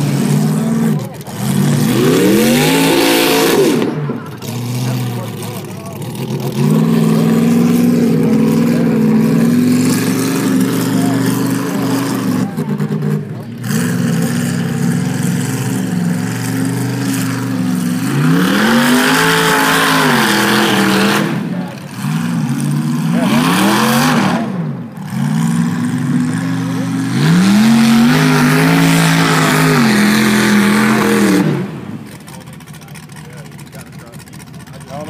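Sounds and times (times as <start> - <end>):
buggy engine revving: 0.0 - 35.0.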